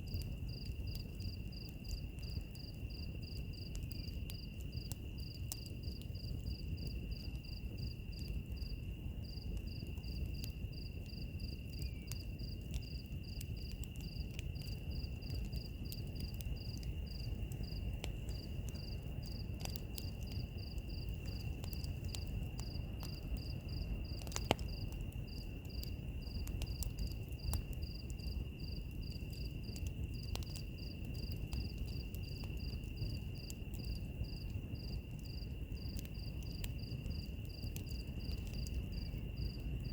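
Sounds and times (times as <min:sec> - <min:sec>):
cricket pulsed chirp: 0:00.0 - 0:39.9
wood fire crackling: 0:00.0 - 0:39.9.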